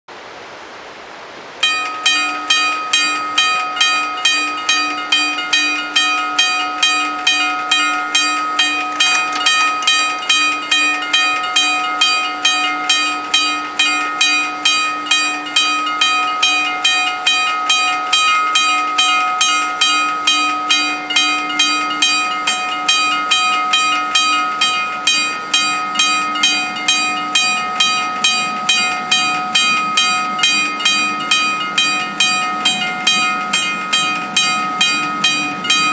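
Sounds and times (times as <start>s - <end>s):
level crossing bells ringing: 1.6s - 35.9s.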